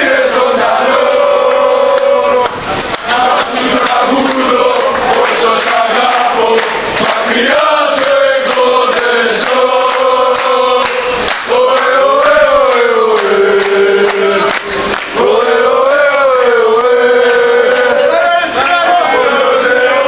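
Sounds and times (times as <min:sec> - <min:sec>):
men chanting in unison: 0:00.0 - 0:20.0.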